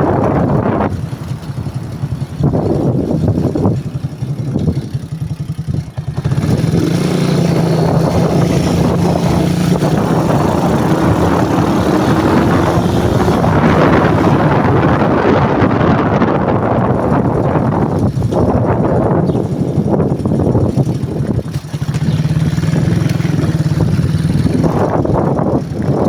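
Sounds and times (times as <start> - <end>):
motorcycle engine accelerating: 0.0 - 26.0
wind buffeting microphone: 0.0 - 26.0.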